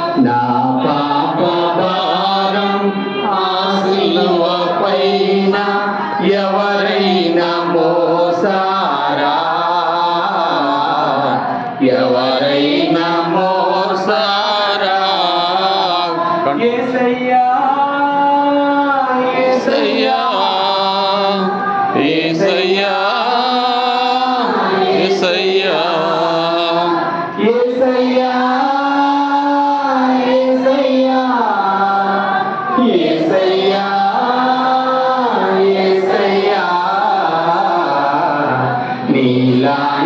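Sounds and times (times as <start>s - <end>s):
slow hymn singing: 0.0s - 40.0s.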